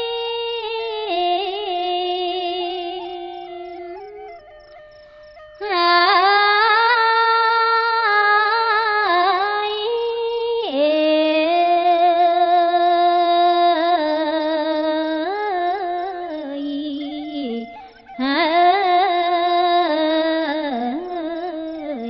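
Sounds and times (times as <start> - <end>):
woman chanting: 0.0 - 22.0.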